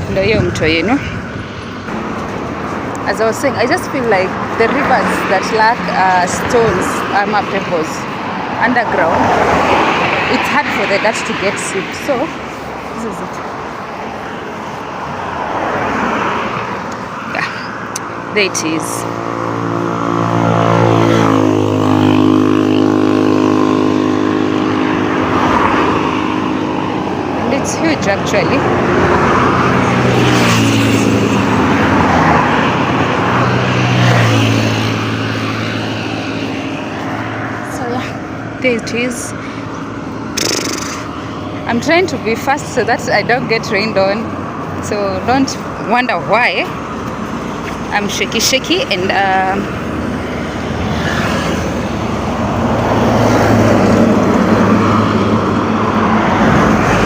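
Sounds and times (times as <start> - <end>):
heavy engines droning: 0.0 - 15.3, 16.6 - 57.0
highway traffic passing: 0.0 - 57.0.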